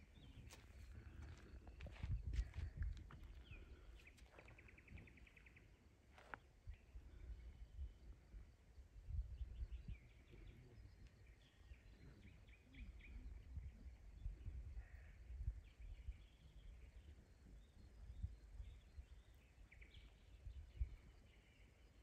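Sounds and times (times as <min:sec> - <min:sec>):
wind rumble on microphone: 0:00.0 - 0:05.4, 0:06.6 - 0:21.6.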